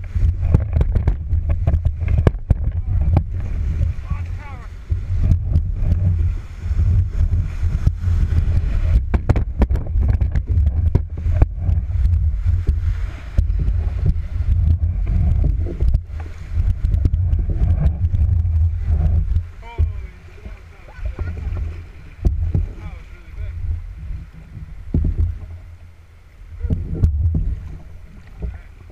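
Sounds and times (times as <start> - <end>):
rushing whitewater rumble: 0.0 - 28.9
water splashing against hull: 0.0 - 28.9
wind buffeting microphone: 0.0 - 28.9.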